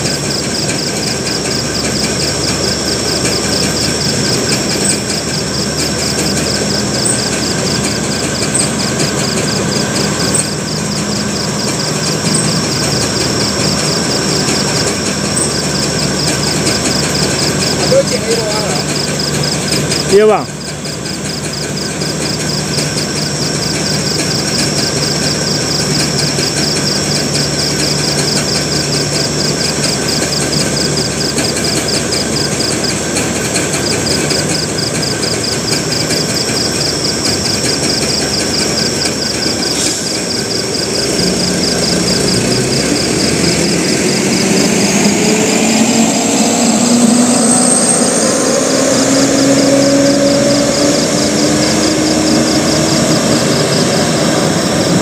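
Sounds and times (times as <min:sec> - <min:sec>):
truck diesel engine labouring: 0:00.0 - 0:55.0.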